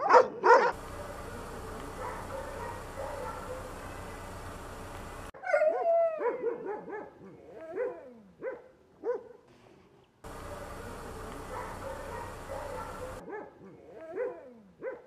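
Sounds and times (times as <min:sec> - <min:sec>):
dogs barking: 0:00.0 - 0:09.4, 0:10.3 - 0:15.0.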